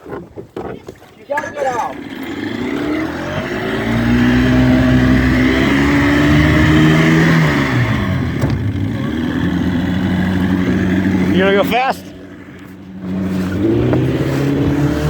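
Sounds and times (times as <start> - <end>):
boat engine speeding up: 1.4 - 15.0.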